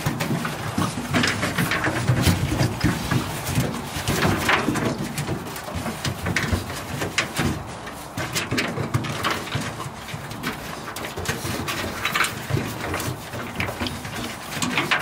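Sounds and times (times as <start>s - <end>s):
claws scraping on metal: 0.0s - 15.0s.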